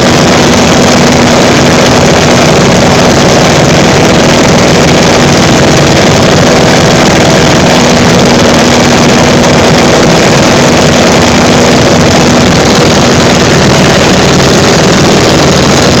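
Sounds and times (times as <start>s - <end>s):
aircraft engine and propeller: 0.0s - 16.0s
wind rushing over microphone: 0.0s - 16.0s.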